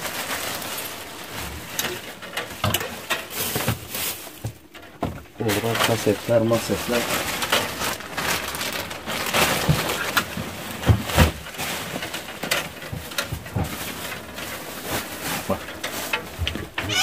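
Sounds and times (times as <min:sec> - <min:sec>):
objects rustling and clattering: 0:00.0 - 0:17.0.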